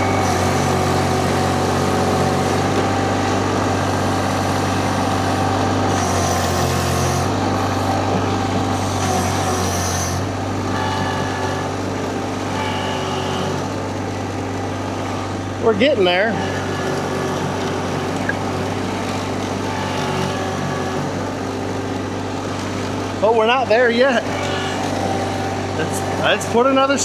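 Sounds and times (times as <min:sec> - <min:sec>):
skid steer engine running: 0:00.0 - 0:27.0.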